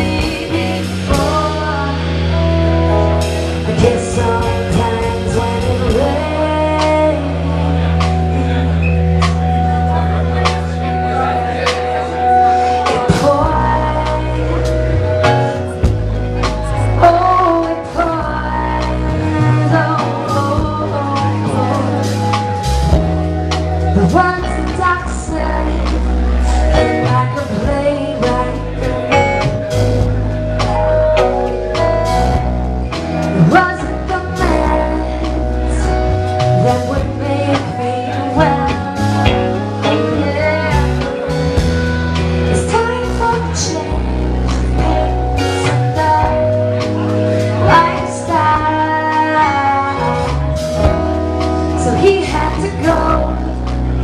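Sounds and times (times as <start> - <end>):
woman singing: 0.0 - 8.7, 10.9 - 30.0, 30.8 - 54.0
drums: 0.0 - 54.0
electric guitar: 0.0 - 54.0
keyboard: 0.0 - 54.0
live band playing: 0.0 - 54.0.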